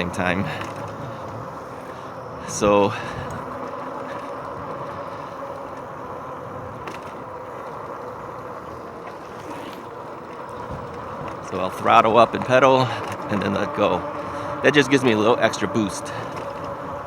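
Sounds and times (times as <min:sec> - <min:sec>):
faint clicks: 0:00.0 - 0:02.2, 0:02.8 - 0:17.0
faint whine: 0:00.0 - 0:17.0
tyres rolling on pavement: 0:00.0 - 0:17.0
wind on microphone: 0:00.0 - 0:17.0.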